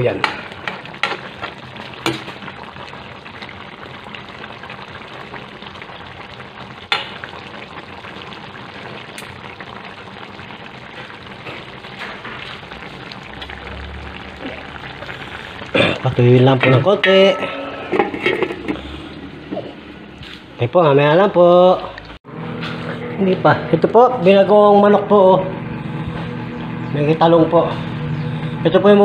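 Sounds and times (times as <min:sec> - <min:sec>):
sauce bubbling and sizzling in pan: 0:00.0 - 0:22.7, 0:23.8 - 0:29.0.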